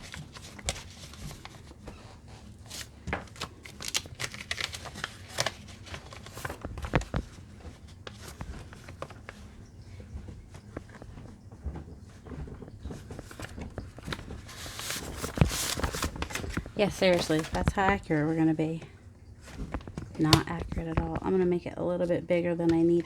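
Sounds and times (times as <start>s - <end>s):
paper rustling: 0.0s - 21.4s.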